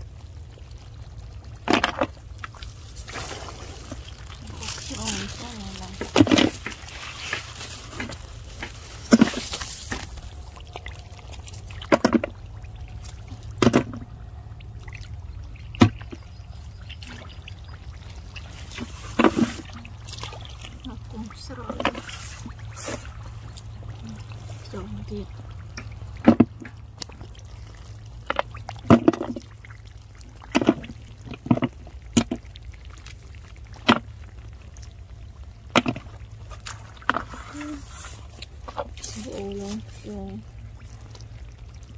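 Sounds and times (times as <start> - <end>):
splashing in muddy water: 0.0 - 41.9.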